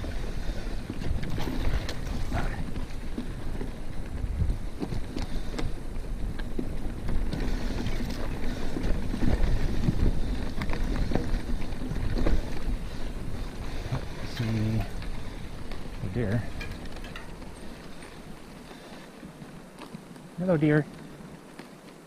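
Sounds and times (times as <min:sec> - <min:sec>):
wind rushing over microphone: 0:00.0 - 0:18.6
bike rattling and knocking: 0:00.0 - 0:22.0
tyres rolling on rough ground: 0:00.0 - 0:22.0.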